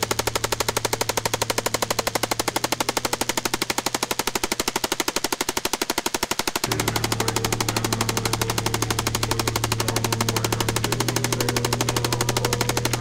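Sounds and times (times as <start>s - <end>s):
low steady hum: 0.0s - 4.8s, 6.6s - 13.0s
machine gun automatic fire: 0.0s - 13.0s.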